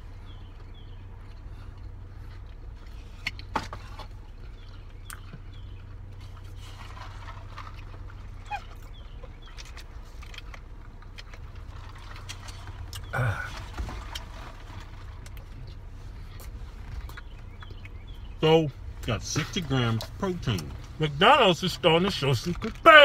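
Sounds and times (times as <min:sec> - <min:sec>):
low car cabin hum: 0:00.0 - 0:23.0
people chewing: 0:00.0 - 0:23.0.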